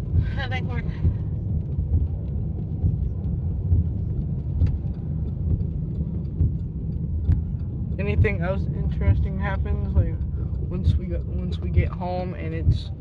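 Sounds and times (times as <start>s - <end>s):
car road and engine rumble: 0.0s - 13.0s
light ticks: 1.0s - 13.0s.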